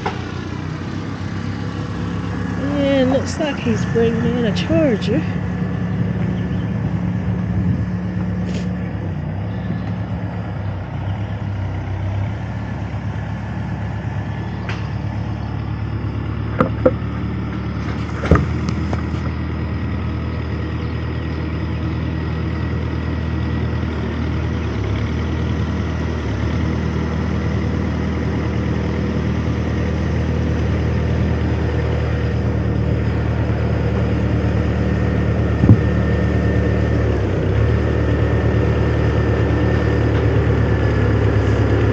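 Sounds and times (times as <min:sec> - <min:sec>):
vehicle engine rumbling: 0:00.0 - 0:41.9.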